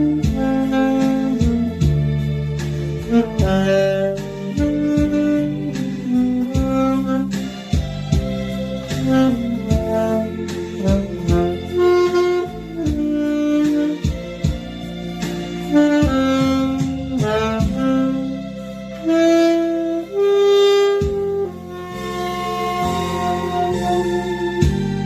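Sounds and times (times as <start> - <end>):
backing track with bass and keyboard: 0.0 - 25.0
saxophone melody: 0.0 - 25.0.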